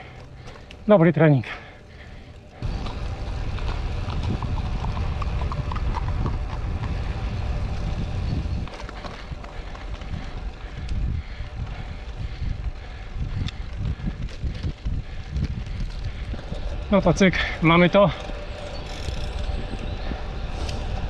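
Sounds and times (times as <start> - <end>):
light evenly spaced ticks: 0.0 - 8.0, 8.6 - 21.0
wind buffeting microphone: 2.5 - 21.0.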